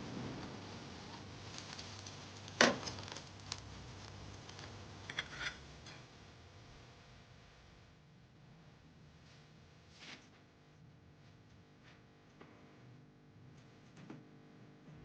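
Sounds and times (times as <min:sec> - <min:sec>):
faint background noise: 0:00.0 - 0:14.1.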